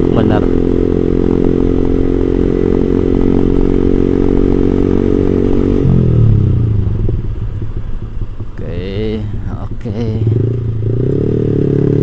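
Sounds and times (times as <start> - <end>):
motorcycle engine with bassy exhaust: 0.0 - 12.0.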